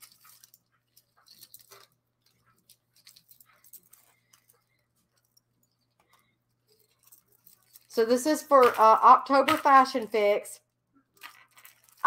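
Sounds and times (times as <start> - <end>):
jewelry and packaging rustling: 0.0 - 12.0.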